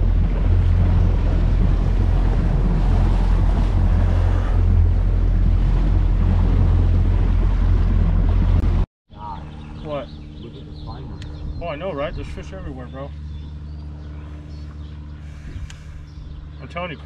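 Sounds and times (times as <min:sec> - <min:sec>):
wind buffeting microphone: 0:00.0 - 0:08.8, 0:09.4 - 0:17.0
choppy water against boat hull: 0:00.0 - 0:17.0.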